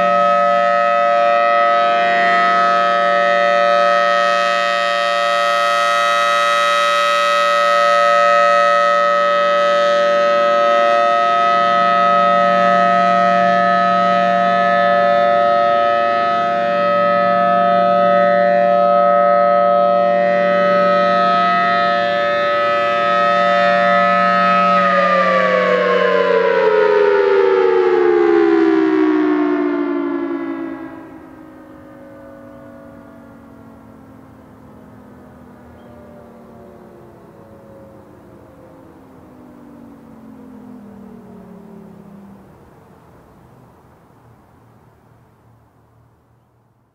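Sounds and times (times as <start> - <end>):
warning siren steady alert tone: 0.0 - 46.1.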